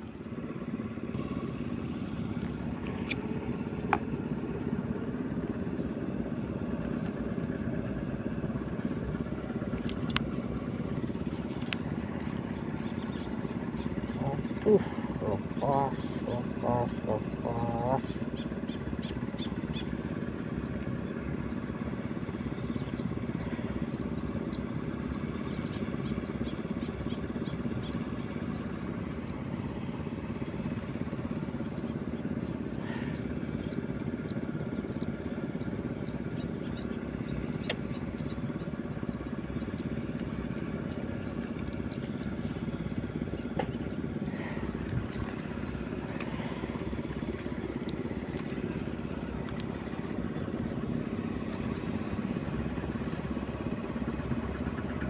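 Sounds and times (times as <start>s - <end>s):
distant traffic rumble: 0.0s - 55.0s
motorcycles: 0.7s - 55.0s.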